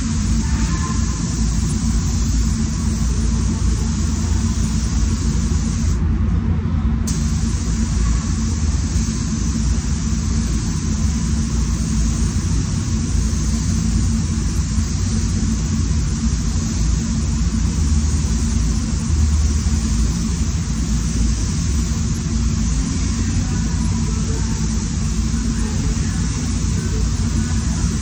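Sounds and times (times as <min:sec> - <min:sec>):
ventilation fans rumbling: 0:00.0 - 0:28.0.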